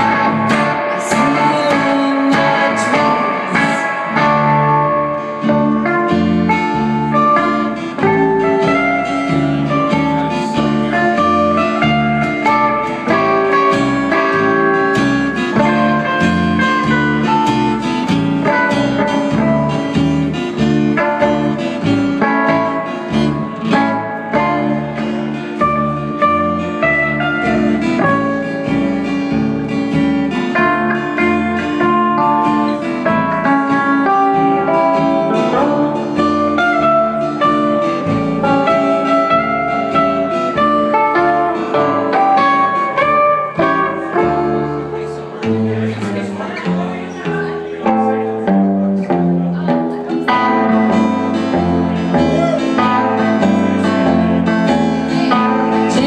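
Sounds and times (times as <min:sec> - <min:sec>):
guitar picking a melody: 0:00.0 - 0:56.0
live band playing: 0:00.0 - 0:56.0.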